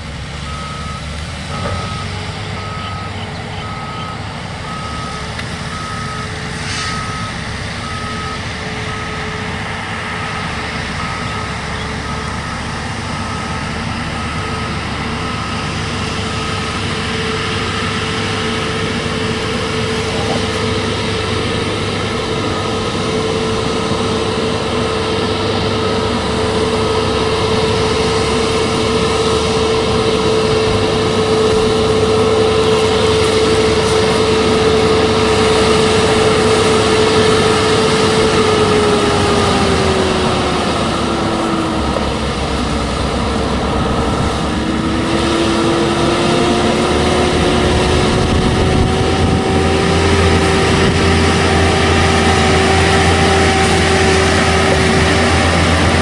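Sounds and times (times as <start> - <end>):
truck diesel engine whining: 0.0 - 56.0.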